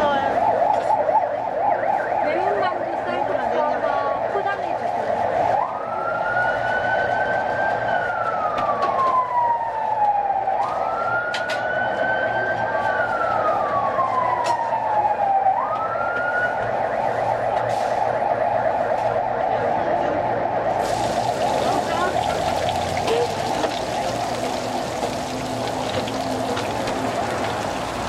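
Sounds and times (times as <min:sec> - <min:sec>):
siren wailing: 0:00.0 - 0:28.0.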